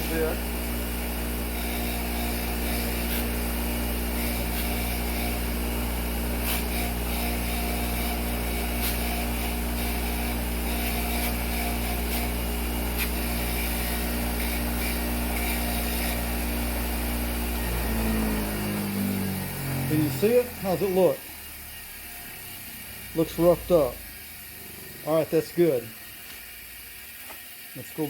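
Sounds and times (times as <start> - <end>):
small power tool with brush running: 0.0 - 28.0.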